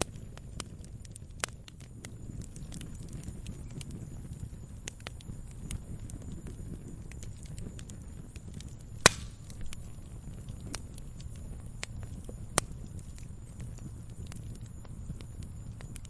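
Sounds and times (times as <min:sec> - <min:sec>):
campfire crackling: 0:00.0 - 0:16.0
fire popping and snapping: 0:00.0 - 0:16.0.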